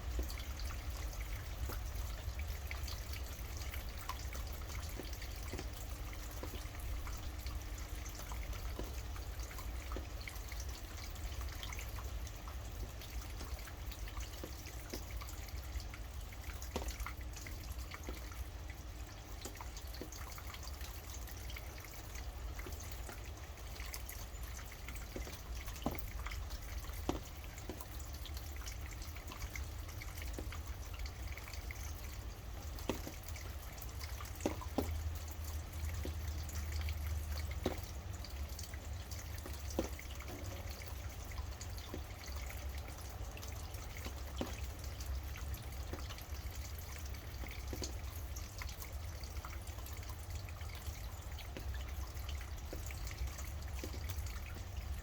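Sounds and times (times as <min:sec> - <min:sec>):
heavy drops dripping: 0:00.0 - 0:55.0
low steady rumble: 0:00.0 - 0:55.0.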